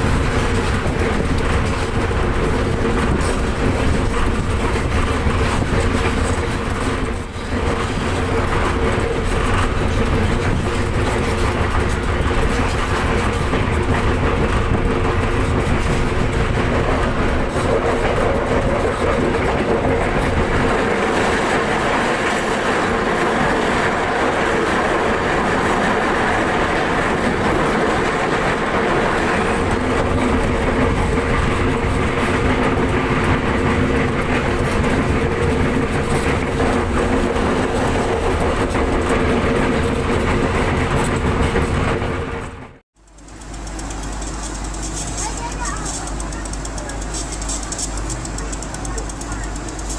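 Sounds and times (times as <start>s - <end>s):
train rumbling along track: 0.0s - 49.9s.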